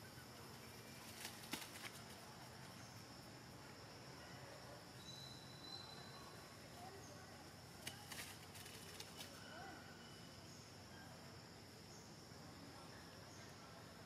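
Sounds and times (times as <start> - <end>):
faint insect hum: 0.0 - 14.0.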